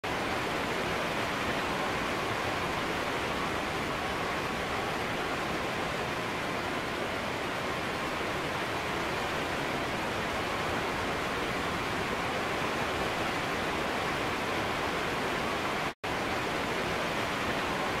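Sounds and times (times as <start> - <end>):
wind blowing through trees: 0.0 - 18.0.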